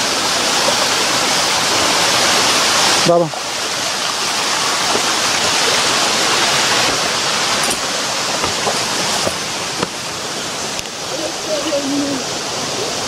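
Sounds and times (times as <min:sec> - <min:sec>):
stream water over rocks: 0:00.0 - 0:13.0.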